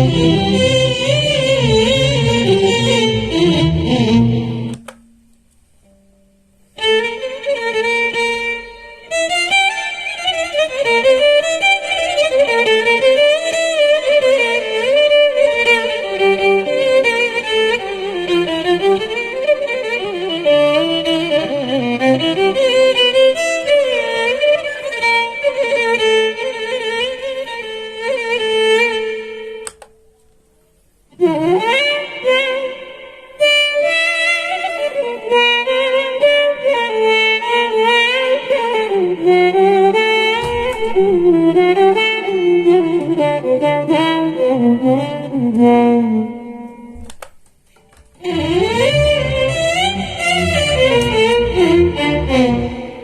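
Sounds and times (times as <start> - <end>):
violin through effects processor: 0.0 - 30.2, 31.1 - 53.0.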